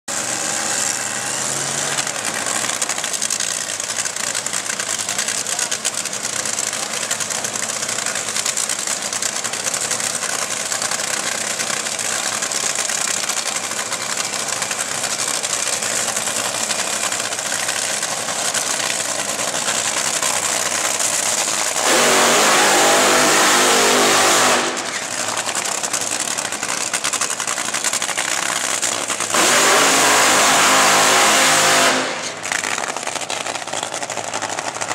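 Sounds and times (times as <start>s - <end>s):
engine blasting: 0.1s - 34.9s
racing engines running: 0.1s - 34.9s.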